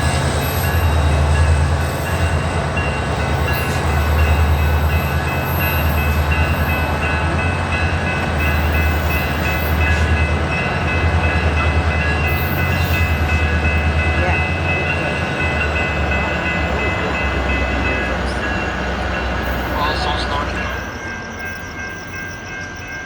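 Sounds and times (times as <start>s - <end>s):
diesel train engine rumbling: 0.0s - 23.0s.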